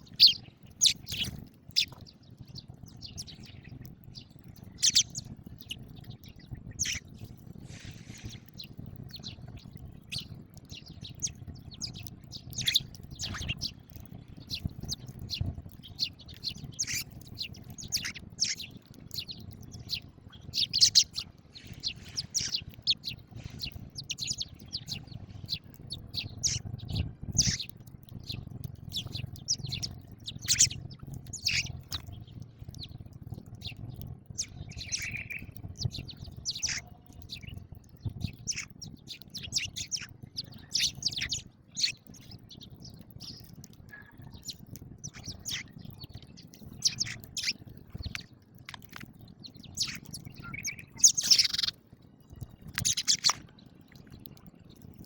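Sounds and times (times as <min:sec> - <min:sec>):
sparrows chirping: 0:00.0 - 0:51.8, 0:52.4 - 0:53.6
steady low rumble: 0:02.5 - 0:48.3.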